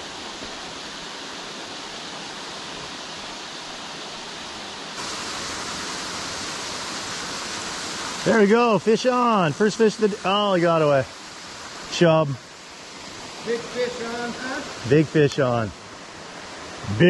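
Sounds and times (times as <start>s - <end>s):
waterfall rushing over rock: 0.0s - 17.0s.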